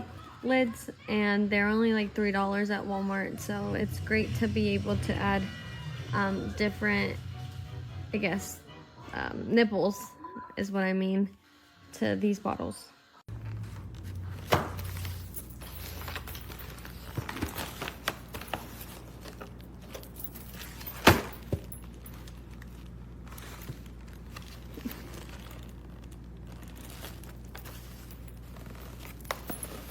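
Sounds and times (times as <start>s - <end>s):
low steady hum: 0.0s - 11.1s, 13.3s - 29.9s.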